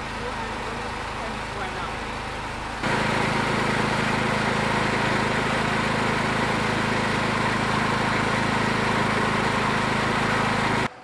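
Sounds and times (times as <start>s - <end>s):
small gasoline engine running: 0.0s - 10.9s.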